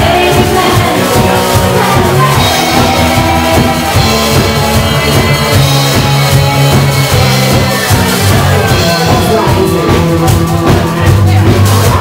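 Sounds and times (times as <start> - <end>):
drum kit beat: 0.0 - 12.0
held bass notes: 0.0 - 12.0
live band playing disco: 0.0 - 12.0.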